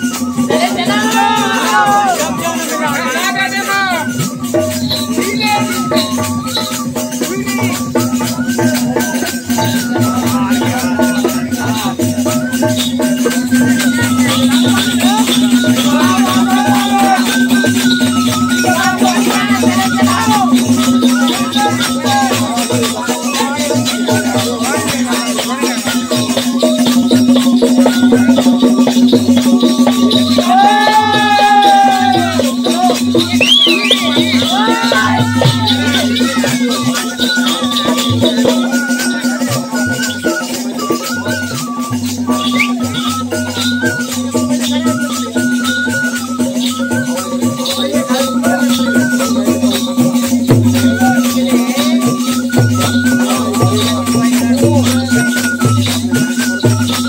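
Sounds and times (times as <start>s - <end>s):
barrel drum: 0.0s - 57.0s
jingling rattle: 0.0s - 57.0s
pipe melody: 0.0s - 57.0s.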